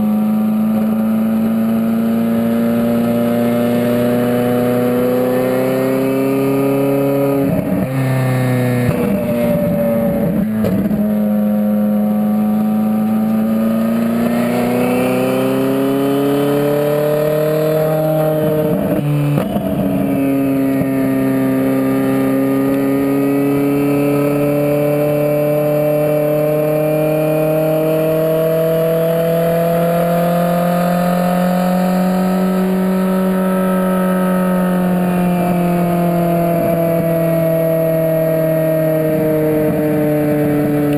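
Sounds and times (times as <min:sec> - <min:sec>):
sports car engine accelerating: 0:00.0 - 0:40.9.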